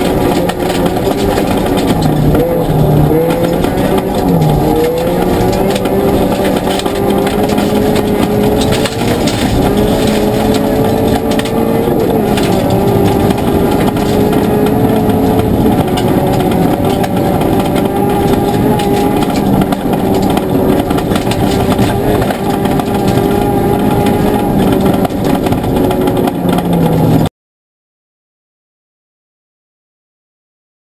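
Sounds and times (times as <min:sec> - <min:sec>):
car engine running hard: 0:00.0 - 0:27.3
gravel noise from tyres: 0:00.0 - 0:27.3.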